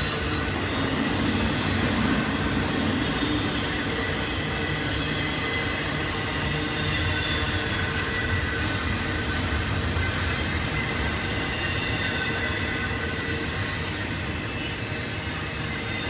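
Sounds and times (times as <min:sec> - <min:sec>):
rumble of train wheels on rail: 0:00.0 - 0:16.0
faint high-pitched wheel squeal: 0:03.0 - 0:16.0.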